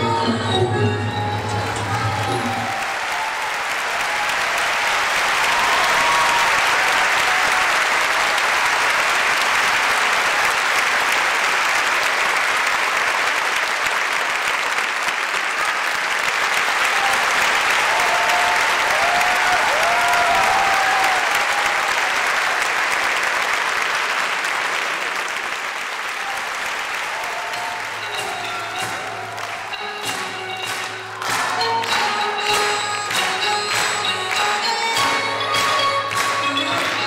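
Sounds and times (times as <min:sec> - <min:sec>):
audience applauding: 0:01.1 - 0:37.0.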